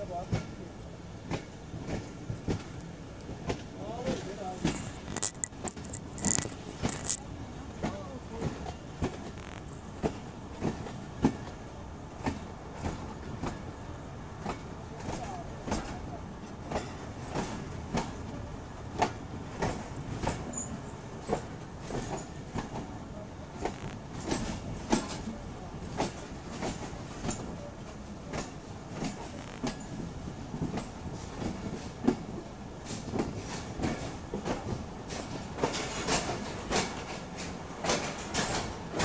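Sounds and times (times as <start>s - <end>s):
train rumbling on track: 0.0s - 39.0s
train wheels clacking: 1.2s - 11.6s, 12.2s - 13.8s, 14.4s - 39.0s.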